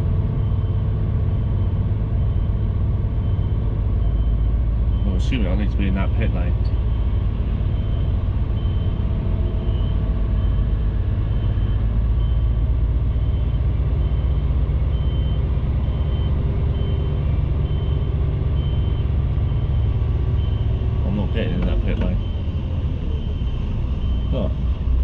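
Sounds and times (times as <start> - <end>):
truck diesel engine rumbling: 0.0 - 25.0
reversing alarm beeping: 0.3 - 25.0.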